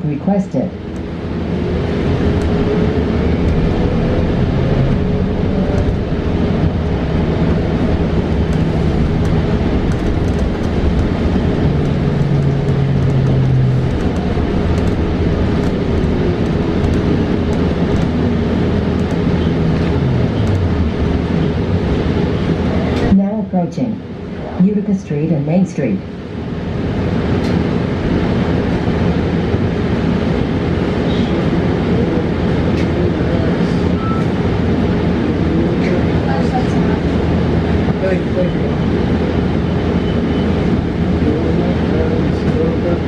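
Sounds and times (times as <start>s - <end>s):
road and tyre noise: 0.0s - 43.0s.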